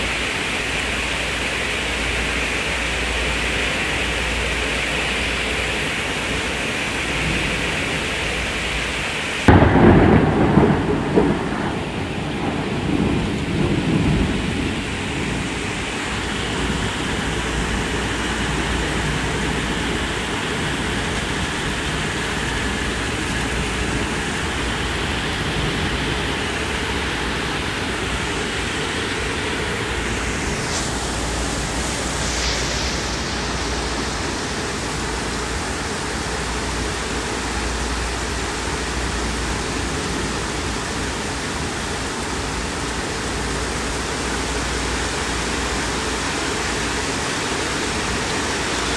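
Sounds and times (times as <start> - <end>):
heavy rain falling: 0.0 - 48.9
thunder rumble: 5.4 - 48.9.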